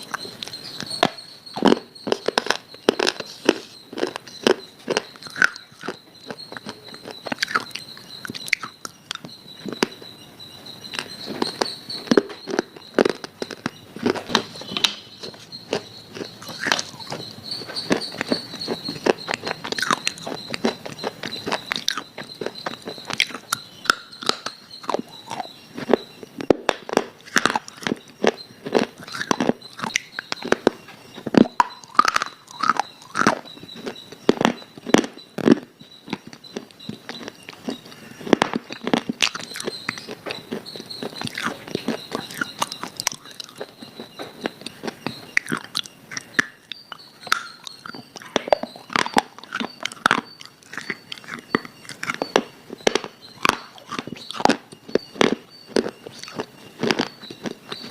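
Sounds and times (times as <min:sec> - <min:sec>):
chewing crunchy food: 0:00.0 - 0:57.9.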